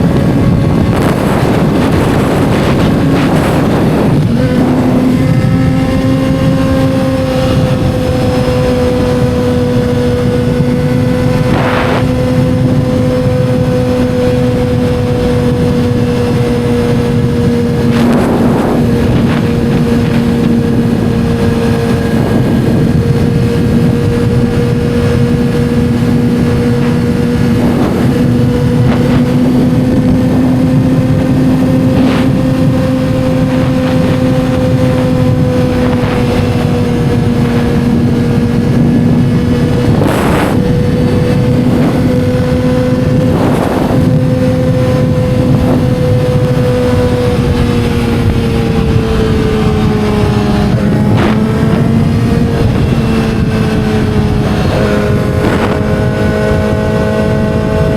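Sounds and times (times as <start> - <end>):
motorcycle engine at high revs: 0.0 - 57.9
wind and road noise: 0.0 - 57.9.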